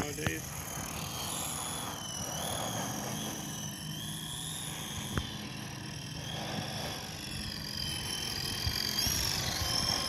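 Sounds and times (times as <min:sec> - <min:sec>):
rc helicopter rotor whining: 0:00.0 - 0:10.0.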